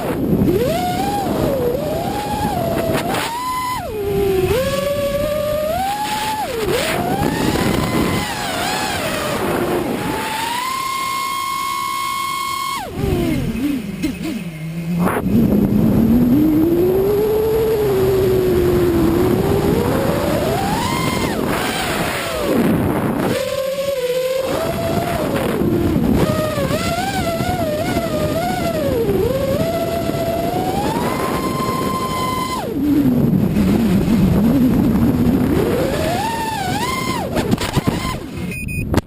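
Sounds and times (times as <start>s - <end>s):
quadcopter motors whining: 0.0s - 38.5s.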